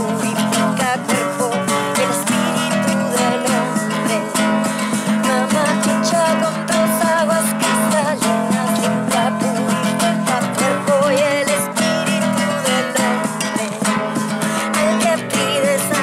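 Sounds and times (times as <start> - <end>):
strummed acoustic guitar: 0.0 - 16.0
woman singing with vibrato: 0.0 - 16.0.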